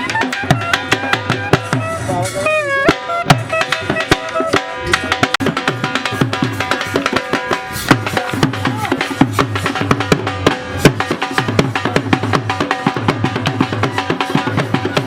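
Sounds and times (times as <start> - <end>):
fast drum beat: 0.0 - 15.0.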